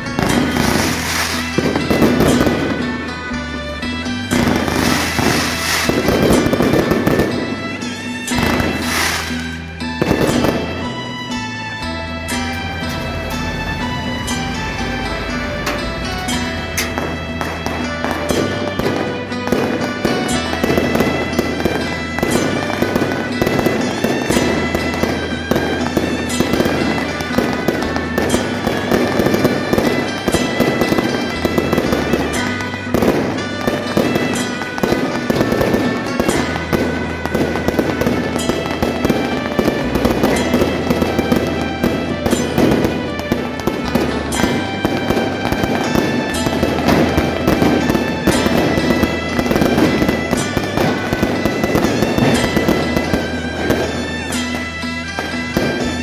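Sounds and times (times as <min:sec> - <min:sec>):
firecrackers popping rapidly: 0:00.0 - 0:11.4, 0:15.8 - 0:56.0.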